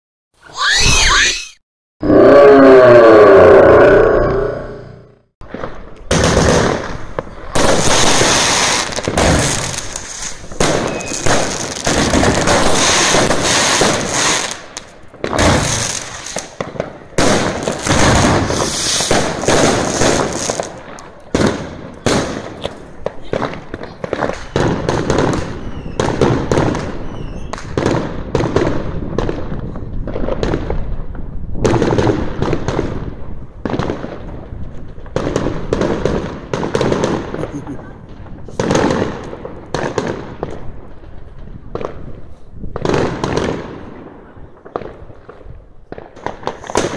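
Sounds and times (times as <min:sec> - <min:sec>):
fireworks bangs and crackling: 0:05.4 - 0:46.9.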